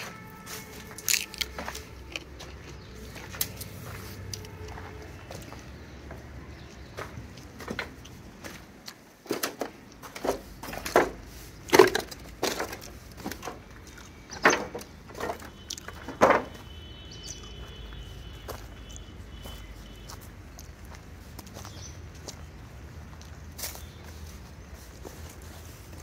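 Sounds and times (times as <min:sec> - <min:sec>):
dry wood crackling and snapping: 0:00.0 - 0:26.0.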